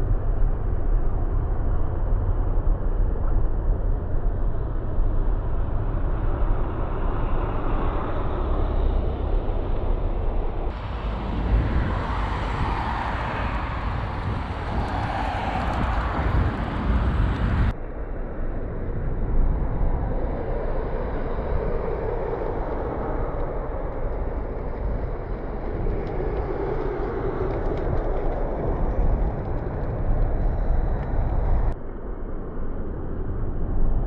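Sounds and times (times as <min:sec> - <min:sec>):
city street traffic rumble: 0:00.0 - 0:32.4.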